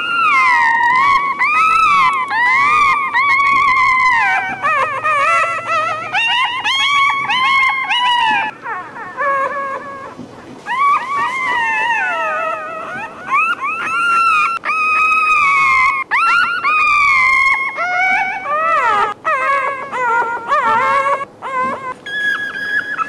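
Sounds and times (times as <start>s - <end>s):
puppies whining: 0.0s - 23.0s.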